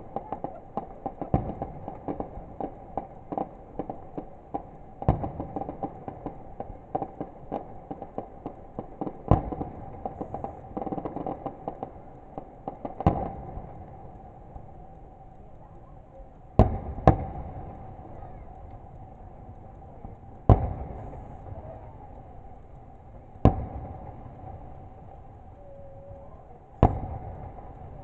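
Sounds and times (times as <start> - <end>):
fireworks bangs: 0.0 - 15.8, 16.5 - 28.0
loud fireworks booms: 0.0 - 15.8, 16.4 - 28.0.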